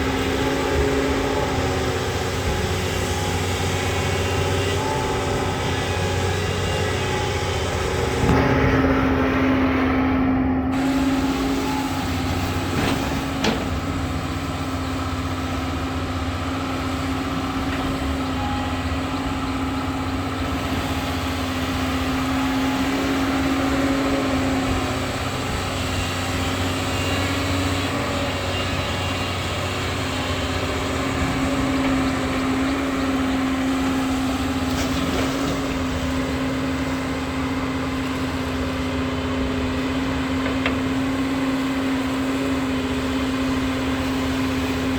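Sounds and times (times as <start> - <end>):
excavator engine droning hum: 0.0 - 44.9.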